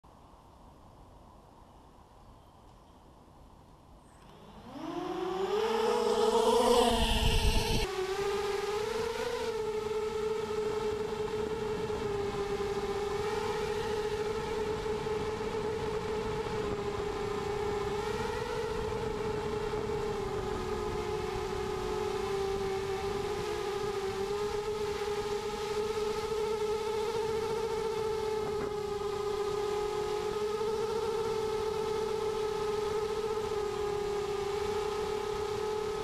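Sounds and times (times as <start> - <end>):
quadcopter motors whining: 4.1 - 36.0.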